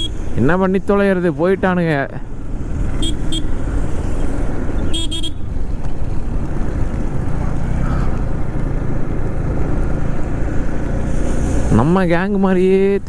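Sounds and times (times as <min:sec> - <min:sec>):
motorcycle engine drone: 0:00.0 - 0:13.0.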